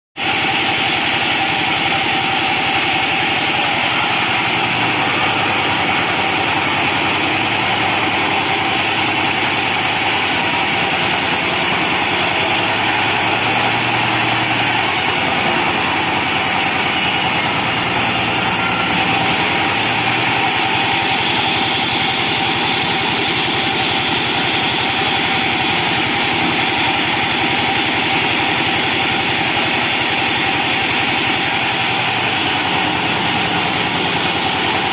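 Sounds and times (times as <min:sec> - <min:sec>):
sawmill machine drone: 0:00.2 - 0:34.9.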